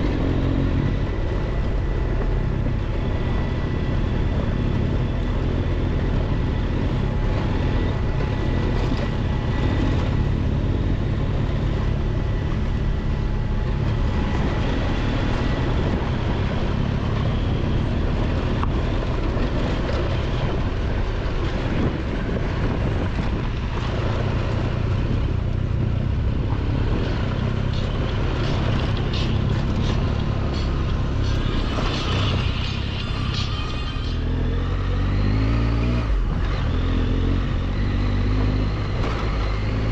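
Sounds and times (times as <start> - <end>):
wind noise: 0.0 - 34.4
motorcycle engine running: 0.0 - 39.9.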